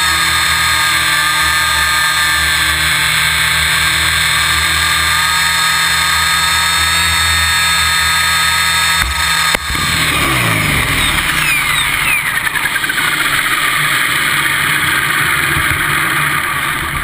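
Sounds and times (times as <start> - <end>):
helicopter motor and rotor winding down: 0.0 - 17.0
steady rushing noise: 0.0 - 17.0.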